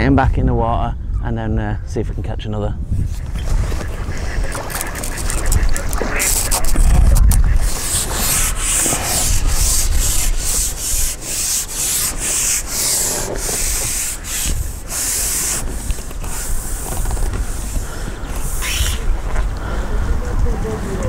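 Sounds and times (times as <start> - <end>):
wind rumble on microphone: 0.0 - 21.0
wind rustling reeds: 2.8 - 21.0.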